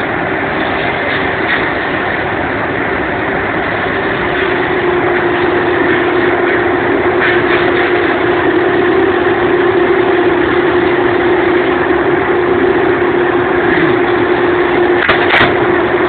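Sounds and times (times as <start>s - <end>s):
constant hum: 0.0s - 16.0s
train carriage rumble: 0.0s - 16.0s.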